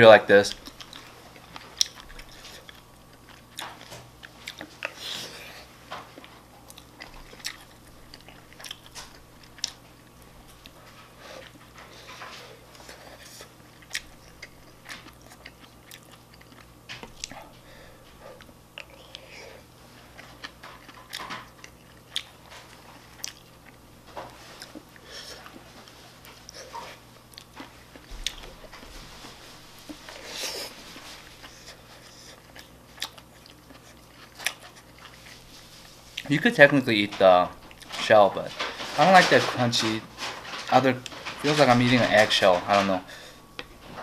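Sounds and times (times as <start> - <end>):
person chewing food: 0.5 - 36.4.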